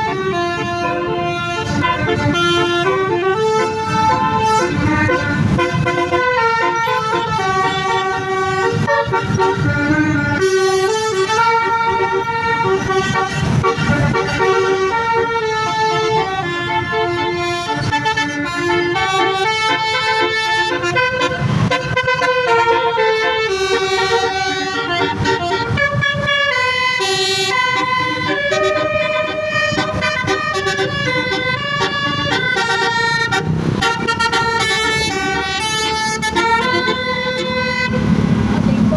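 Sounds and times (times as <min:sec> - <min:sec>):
musical air horn playing a tune: 0:00.0 - 0:38.2.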